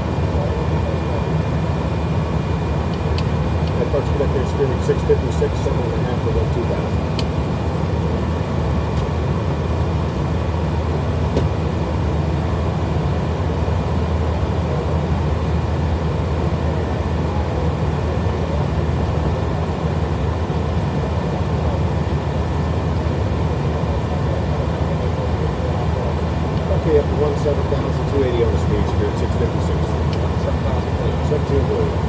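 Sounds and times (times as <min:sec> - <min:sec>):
jet aircraft cabin drone: 0:00.0 - 0:32.0.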